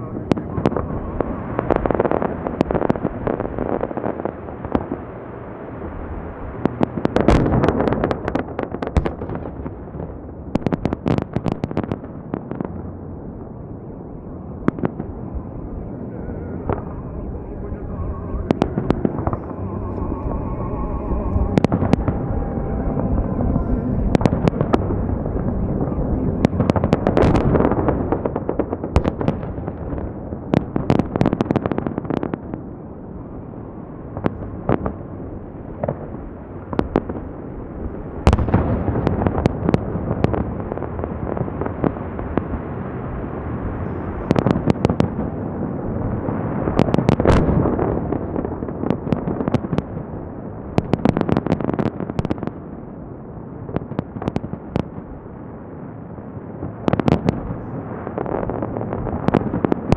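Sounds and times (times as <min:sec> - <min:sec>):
fireworks bangs and booms: 0:00.0 - 0:59.9
rumble of echoes: 0:00.0 - 0:59.9.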